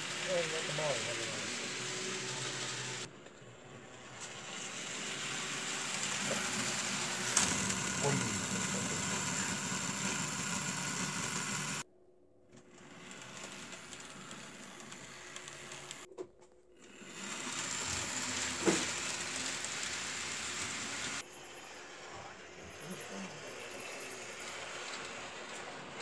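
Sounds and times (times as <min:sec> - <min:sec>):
model trains whirring on track: 0:00.0 - 0:11.8, 0:12.6 - 0:16.1, 0:16.8 - 0:26.0.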